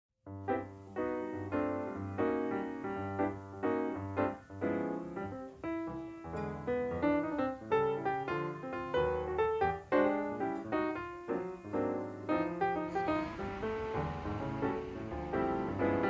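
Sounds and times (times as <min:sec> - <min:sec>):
piano music: 0:00.3 - 0:16.0.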